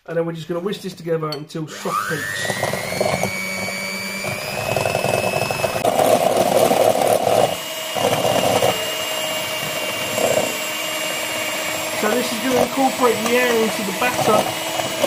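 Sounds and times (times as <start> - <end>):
electric whisk motor whine: 1.7 - 15.0.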